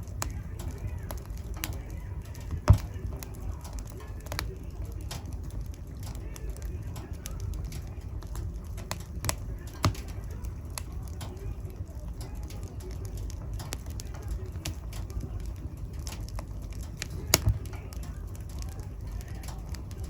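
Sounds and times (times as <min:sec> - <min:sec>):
fire crackling and popping: 0:00.0 - 0:20.0
fire flames rumbling: 0:00.0 - 0:20.0.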